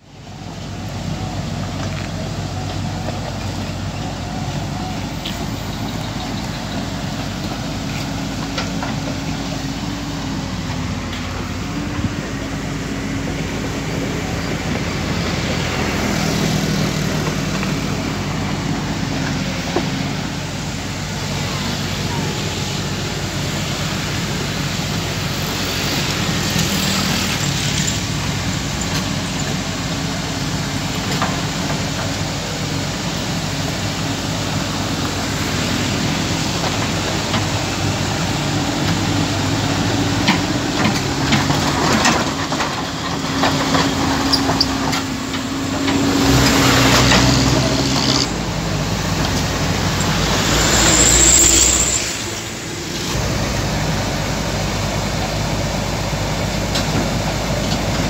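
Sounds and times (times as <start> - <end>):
excavator diesel engine under load: 0.0 - 58.0
steel tracks crawling: 0.2 - 58.0.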